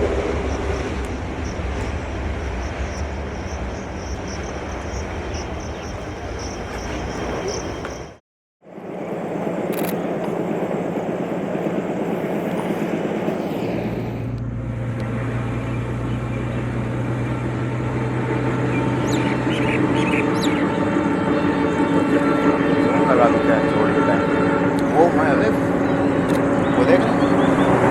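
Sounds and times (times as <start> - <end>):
diesel train engine hum: 0.0 - 27.9.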